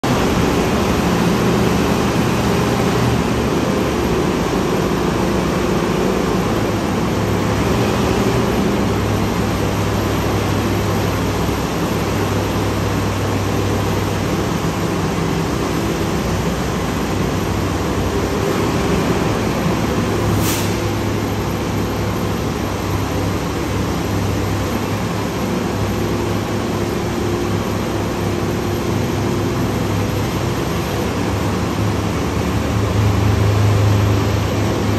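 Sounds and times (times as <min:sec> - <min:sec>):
garbage truck engine running: 0:00.0 - 0:34.9.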